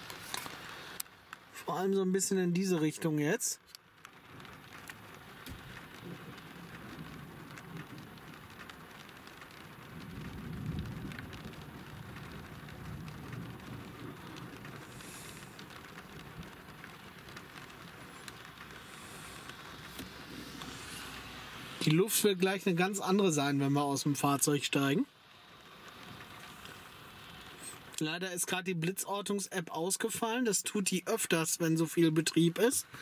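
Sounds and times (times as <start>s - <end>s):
rain on car roof: 0.0s - 33.0s.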